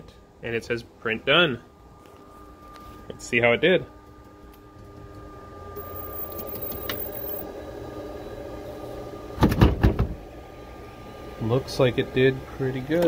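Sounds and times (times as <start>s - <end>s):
machine hum: 1.7s - 9.4s, 10.2s - 13.0s.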